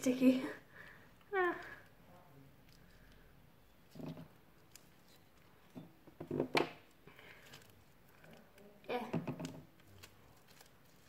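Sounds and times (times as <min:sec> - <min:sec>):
slime squelching: 0:01.2 - 0:06.2, 0:06.8 - 0:11.0.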